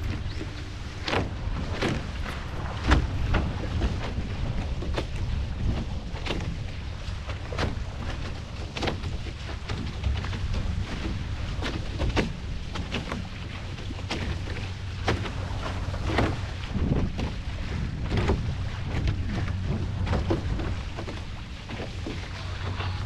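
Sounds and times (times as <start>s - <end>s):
water slapping against hulls: 0.0s - 23.0s
wind rumble on microphone: 0.0s - 23.0s.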